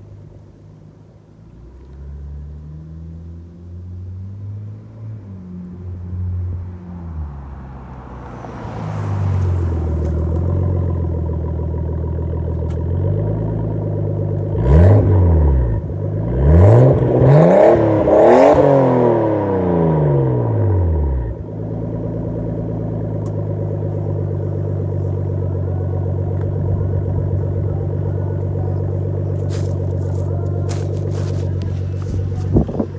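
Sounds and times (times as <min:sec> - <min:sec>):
car engine revving and idling: 0:00.0 - 0:32.9.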